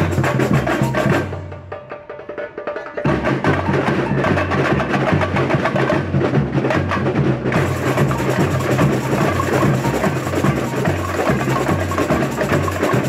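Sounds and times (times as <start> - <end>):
light percussion: 0.0 - 13.0
samba drumming band: 0.0 - 13.0.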